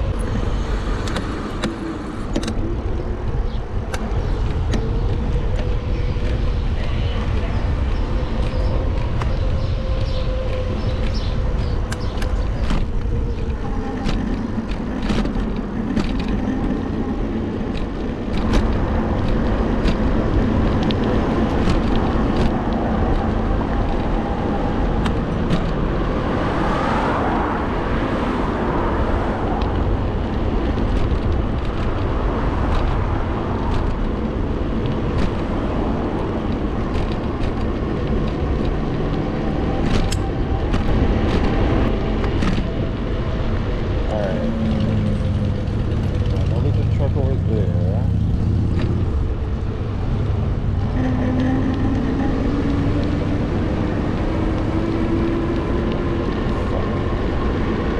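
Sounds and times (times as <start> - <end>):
road noise: 0.0 - 57.9
vehicle passing: 0.0 - 57.9
wind rumble on microphone: 0.0 - 57.9.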